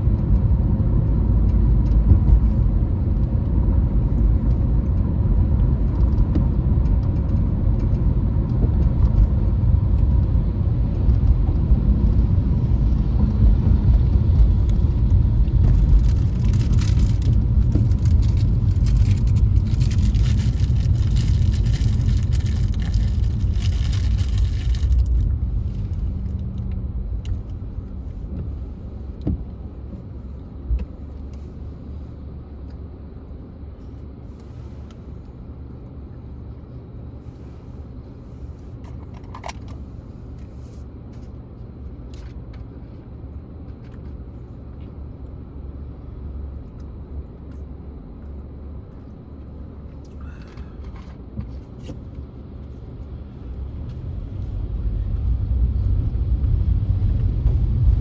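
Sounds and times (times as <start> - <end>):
car driving with low rumble: 0.0 - 58.0.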